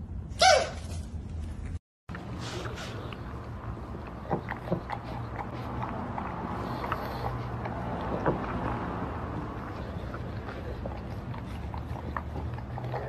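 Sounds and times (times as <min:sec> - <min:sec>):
dog eating from ceramic bowl: 0:02.1 - 0:13.0.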